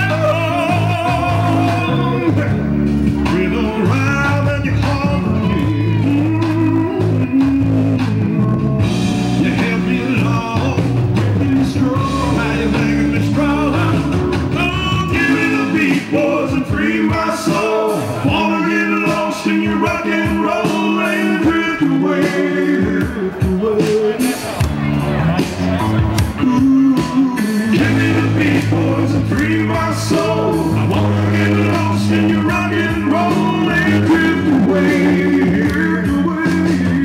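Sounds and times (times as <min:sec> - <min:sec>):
man singing into microphone: 0:00.0 - 0:08.1, 0:09.3 - 0:24.6, 0:26.3 - 0:37.0
blues-rock backing track: 0:00.0 - 0:37.0
deep bass: 0:00.0 - 0:37.0.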